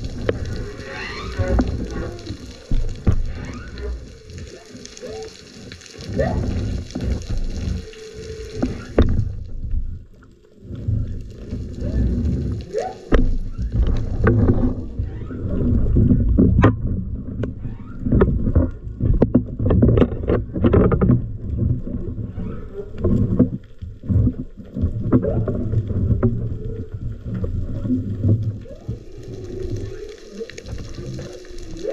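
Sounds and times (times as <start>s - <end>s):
underwater rumble: 0.0s - 31.9s.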